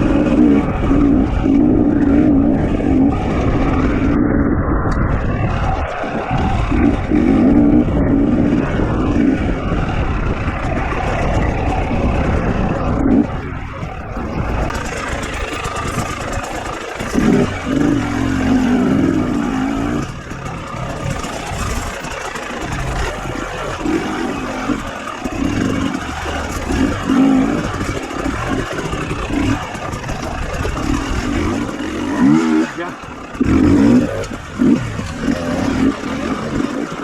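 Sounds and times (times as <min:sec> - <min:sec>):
constant rushing noise: 0:00.0 - 0:37.0
dirt bike engine revving: 0:00.0 - 0:37.0.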